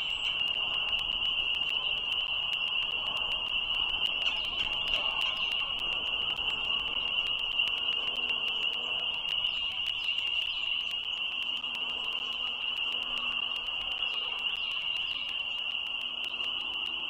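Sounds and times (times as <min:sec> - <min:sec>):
frogs trilling: 0:00.0 - 0:17.0
sharp little clicks: 0:00.0 - 0:17.0.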